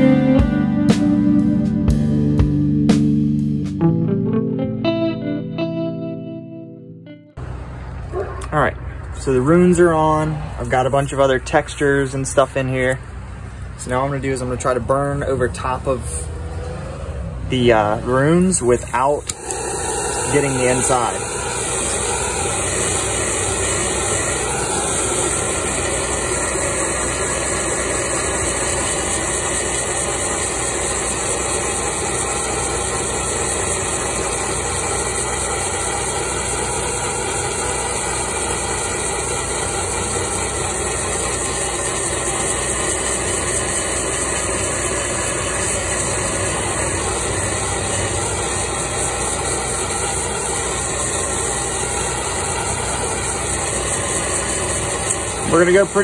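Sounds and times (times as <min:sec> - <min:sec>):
gas torch hissing: 0:08.8 - 0:56.0.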